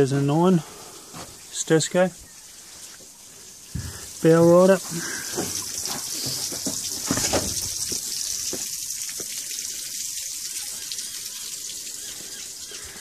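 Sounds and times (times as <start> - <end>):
hose water hissing and splashing: 0.0 - 13.0.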